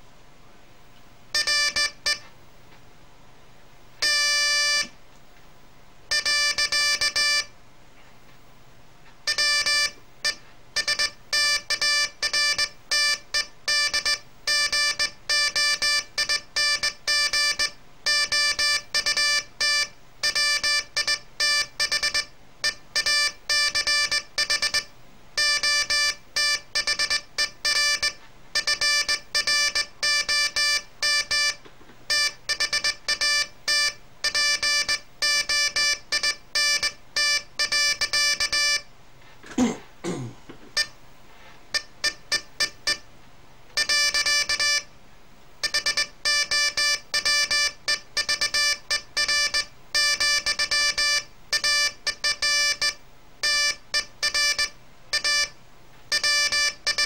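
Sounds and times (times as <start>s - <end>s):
morse code oscillator tone: 1.4s - 2.2s, 4.0s - 4.9s, 6.1s - 7.5s, 9.3s - 38.9s, 40.8s - 41.0s, 41.7s - 43.0s, 43.8s - 44.9s, 45.6s - 57.0s.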